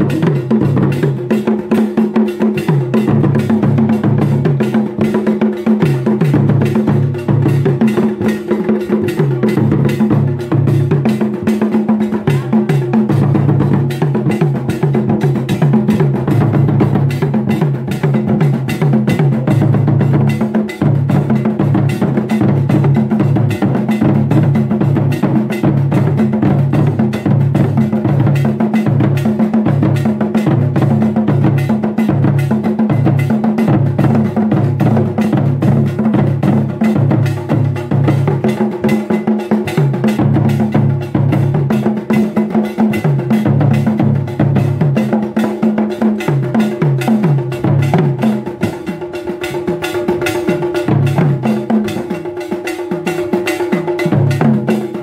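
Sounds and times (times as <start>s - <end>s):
drum ensemble beaten with sticks: 0.0s - 55.0s.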